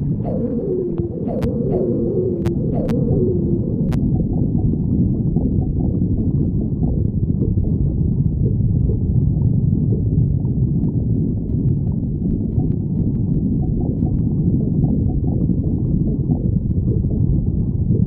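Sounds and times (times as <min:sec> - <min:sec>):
stomach growling and gurgling: 0:00.0 - 0:18.0.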